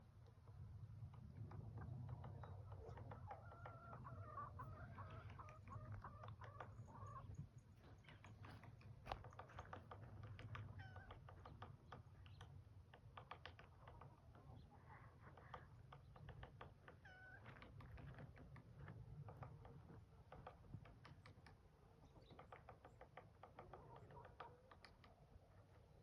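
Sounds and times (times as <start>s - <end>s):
woodpecker tapping on wood: 5.0s - 25.8s.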